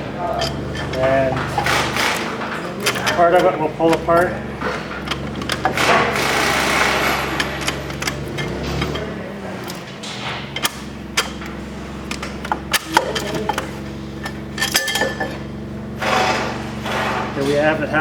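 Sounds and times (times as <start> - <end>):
metal clinks and knocks: 0.0 - 17.8
low steady hum: 0.0 - 18.0.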